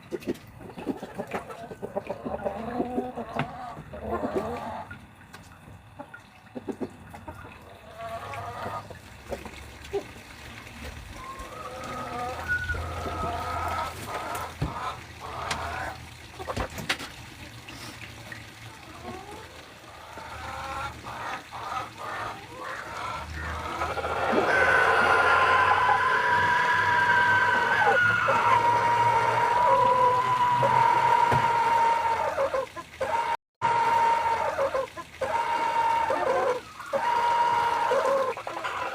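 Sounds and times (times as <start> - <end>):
chickens clucking: 0.0 - 10.2, 11.1 - 17.1, 18.6 - 38.9.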